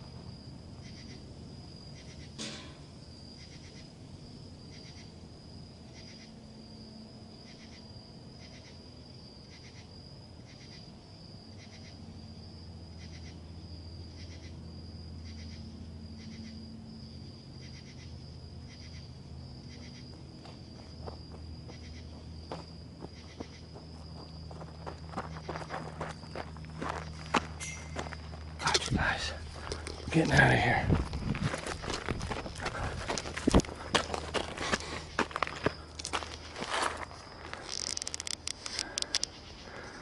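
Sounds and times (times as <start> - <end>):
insect high trill: 0.0 - 40.0
insect pulsed chirp: 0.0 - 40.0.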